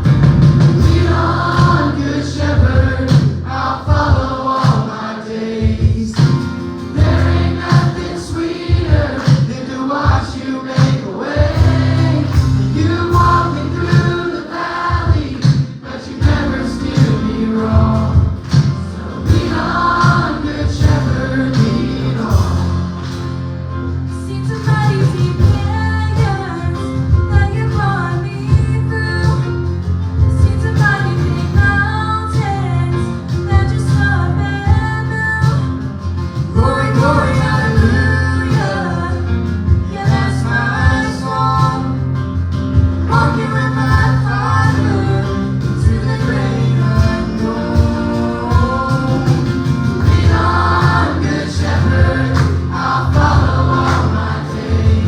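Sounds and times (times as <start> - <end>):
sustained bass notes: 0.0 - 4.5, 5.7 - 9.2, 11.4 - 15.4, 16.1 - 55.0
gospel singers with band: 0.0 - 55.0.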